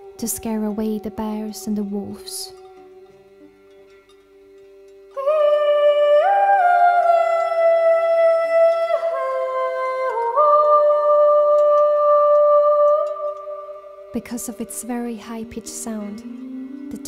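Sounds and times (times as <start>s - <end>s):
woman singing high herding call: 0.1s - 2.7s, 5.2s - 17.0s.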